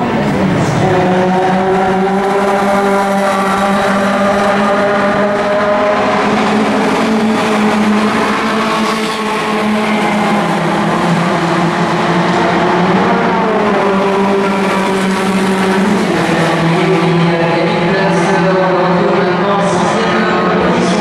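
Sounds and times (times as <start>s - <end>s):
racing car engine at high revs: 0.0s - 21.0s.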